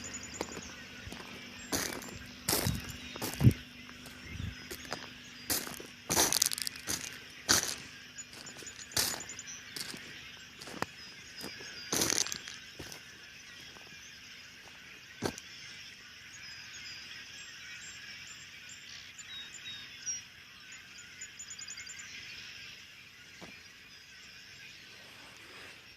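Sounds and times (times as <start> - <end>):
bird trill: 0.0 - 25.7
small birds chirping: 0.0 - 25.9.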